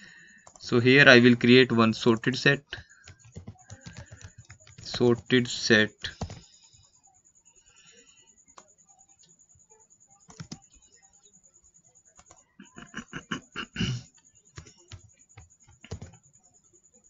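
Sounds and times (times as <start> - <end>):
keyboard typing: 0.0 - 17.0.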